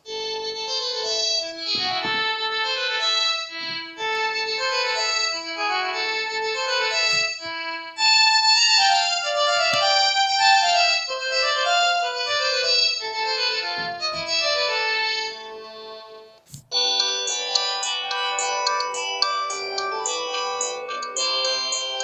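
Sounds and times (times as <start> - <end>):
phone ringtone melody: 0.0 - 22.0.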